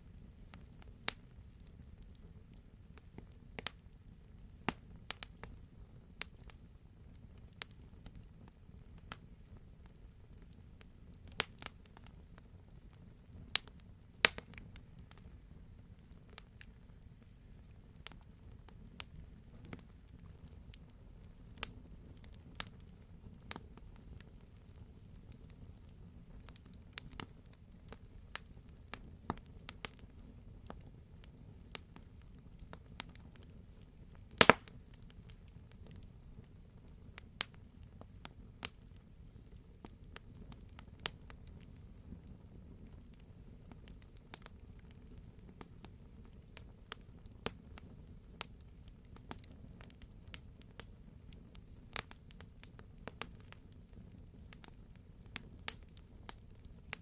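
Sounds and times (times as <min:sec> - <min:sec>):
campfire crackling and popping: 0:00.1 - 0:57.0.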